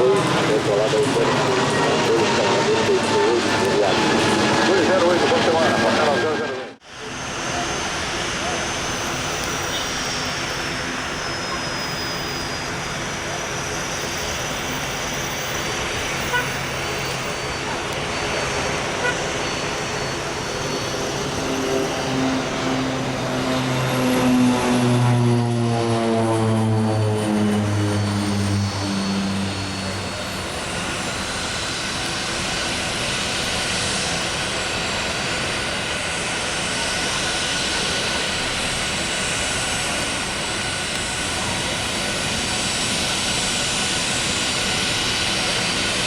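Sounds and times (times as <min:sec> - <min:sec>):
propeller aircraft passing by: 0:00.0 - 0:11.6, 0:12.4 - 0:46.0.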